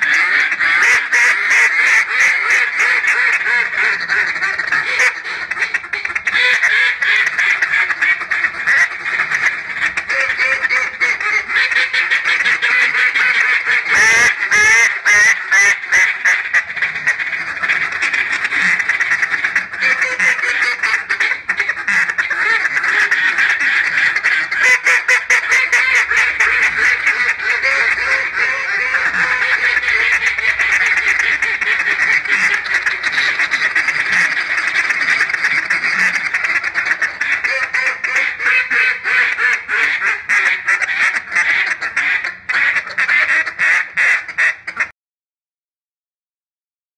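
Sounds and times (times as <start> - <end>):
duck call quacking: 0.0 - 44.9.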